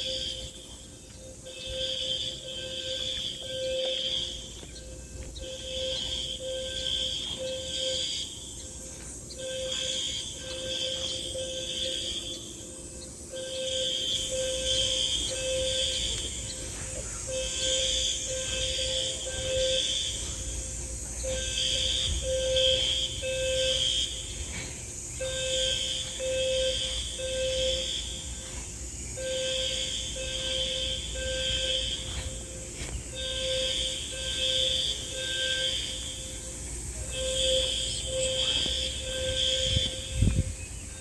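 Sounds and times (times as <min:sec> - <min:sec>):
fire alarm beeps: 0:00.0 - 0:41.0.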